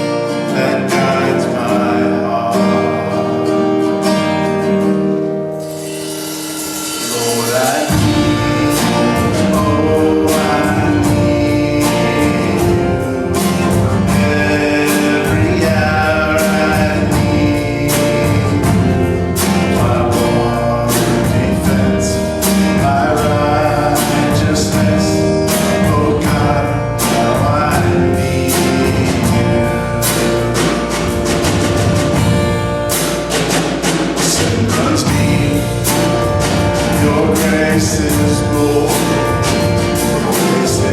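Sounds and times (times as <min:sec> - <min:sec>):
voices singing worship song: 0:00.0 - 0:03.8, 0:05.8 - 0:40.9
instrumental accompaniment with beat: 0:03.4 - 0:40.9.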